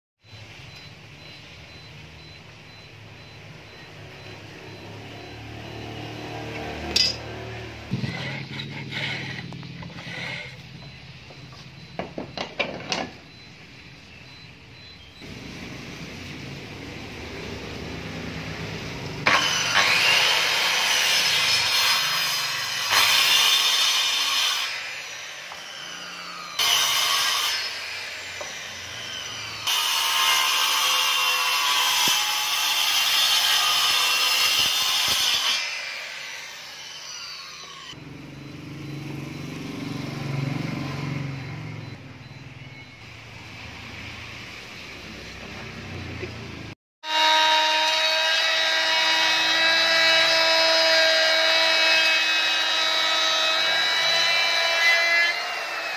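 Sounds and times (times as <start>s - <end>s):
circular saw cutting wood: 1.8s - 12.0s, 14.3s - 55.9s.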